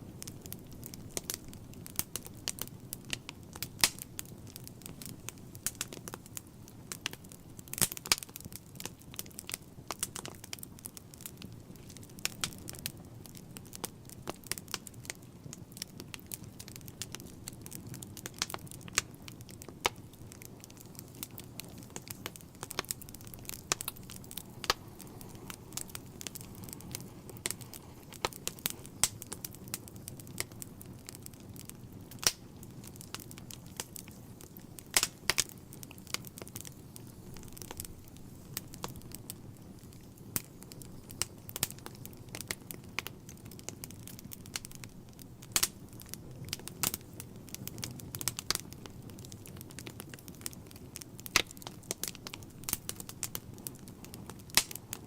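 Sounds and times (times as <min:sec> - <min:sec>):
fire crackling in a fireplace: 0:00.0 - 0:55.0.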